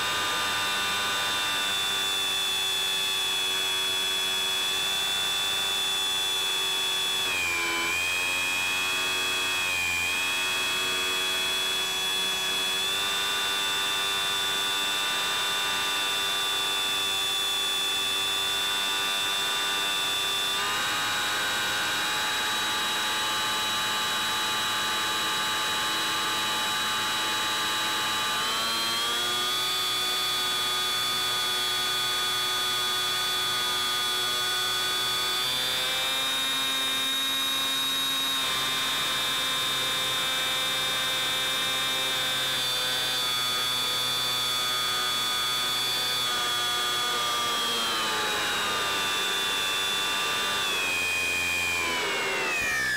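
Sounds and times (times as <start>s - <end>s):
electric motor and propeller whining: 0.0s - 52.9s.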